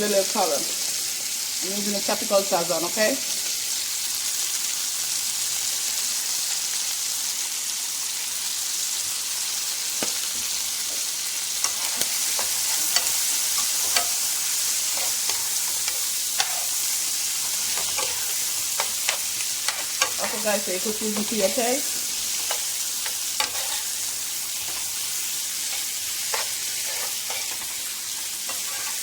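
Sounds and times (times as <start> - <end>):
chicken sizzling in a pot: 0.0 - 29.0.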